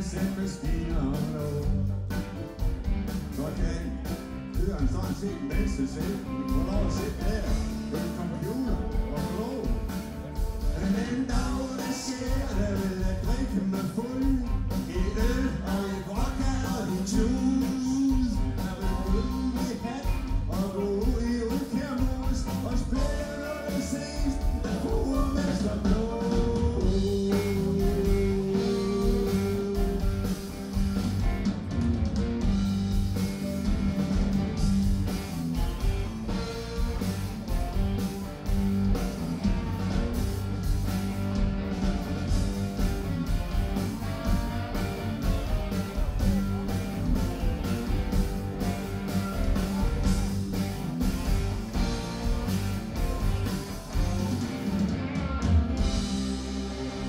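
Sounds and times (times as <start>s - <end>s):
bass guitar: 0.0s - 57.0s
drum kit beat: 0.0s - 57.0s
electric guitars: 0.0s - 57.0s.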